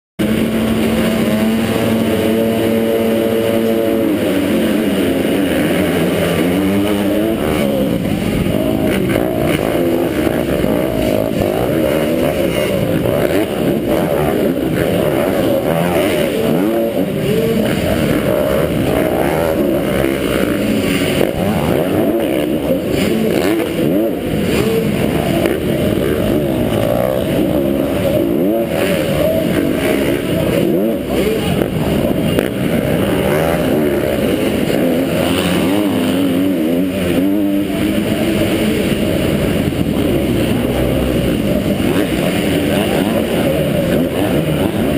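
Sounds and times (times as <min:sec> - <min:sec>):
dirt bike engines revving: 0:00.2 - 0:44.9.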